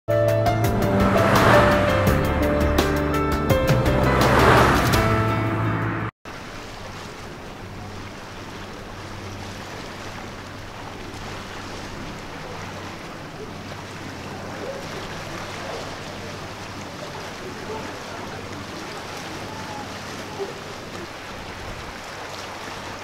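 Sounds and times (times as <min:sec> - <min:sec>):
low boat engine hum: 0:00.1 - 0:23.0
water wash: 0:00.3 - 0:05.6, 0:06.3 - 0:23.0.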